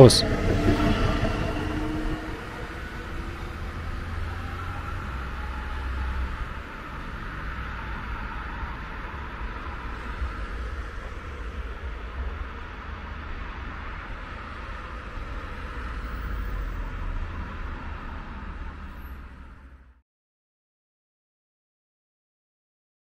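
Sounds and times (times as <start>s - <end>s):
low rumble: 0.0s - 18.8s.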